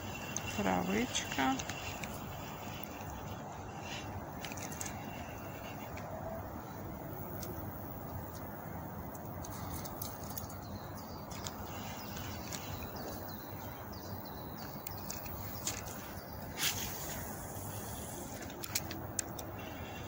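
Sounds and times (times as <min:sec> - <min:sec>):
outdoor background hiss: 0:00.0 - 0:20.0
songbirds chirping: 0:00.0 - 0:20.0.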